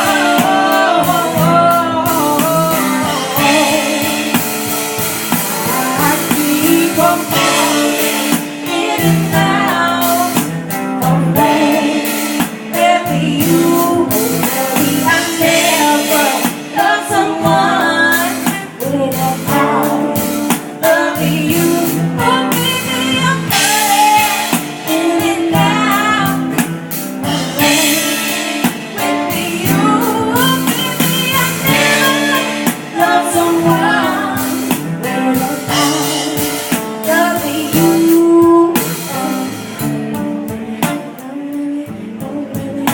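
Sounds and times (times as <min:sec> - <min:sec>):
drum kit beat: 0:00.0 - 0:42.9
guitar: 0:00.0 - 0:42.9
person singing: 0:00.0 - 0:42.9.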